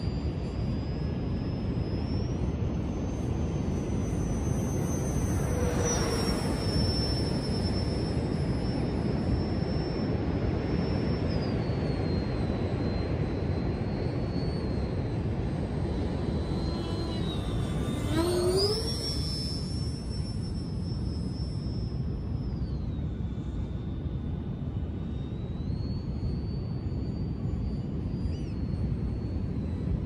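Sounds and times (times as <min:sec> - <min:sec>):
miniature jet turbine whining: 0:00.0 - 0:30.0.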